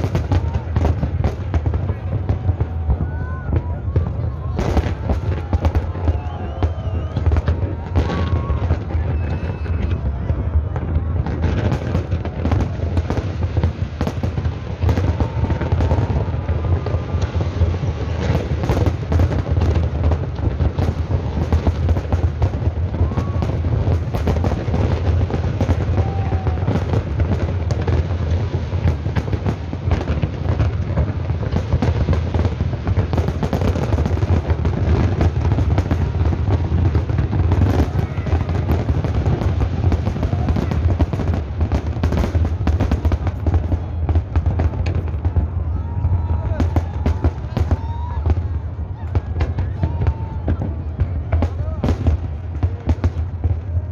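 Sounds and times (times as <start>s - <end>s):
fireworks booming: 0.0s - 53.9s
fireworks crackling: 0.0s - 53.9s.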